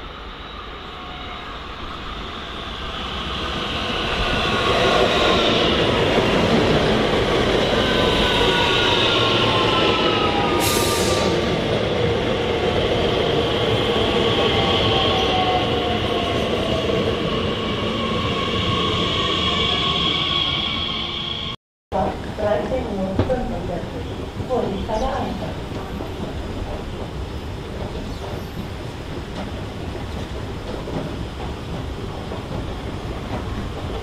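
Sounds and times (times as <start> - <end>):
train rolling noise: 0.0 - 34.0.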